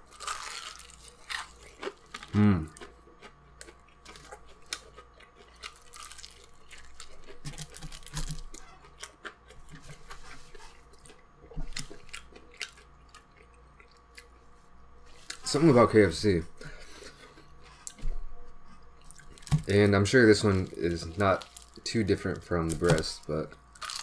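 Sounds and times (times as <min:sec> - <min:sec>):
person chewing crispy food: 0:00.0 - 0:15.7, 0:18.6 - 0:24.0.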